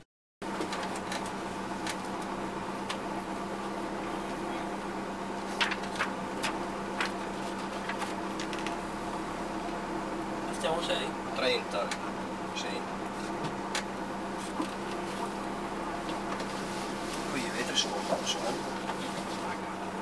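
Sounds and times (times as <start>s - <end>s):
car engine idling: 0.4s - 20.0s.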